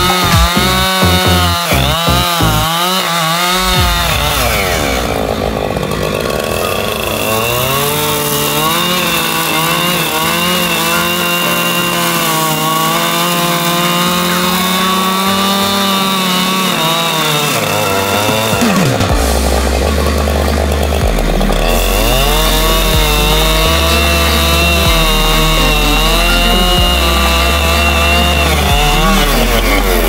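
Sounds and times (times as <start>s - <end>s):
chainsaw cutting log: 0.0s - 30.0s.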